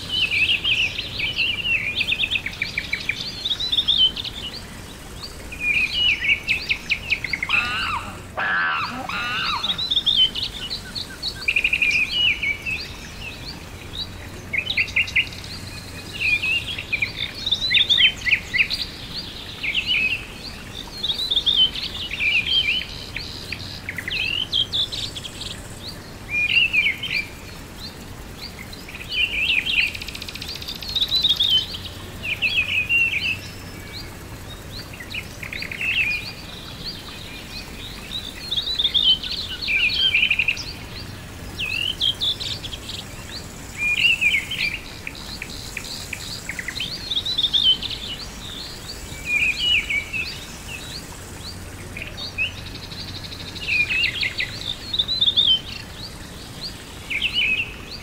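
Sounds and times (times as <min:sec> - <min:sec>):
songbirds singing: 0:00.0 - 0:58.0
steady outdoor hiss: 0:00.0 - 0:58.0.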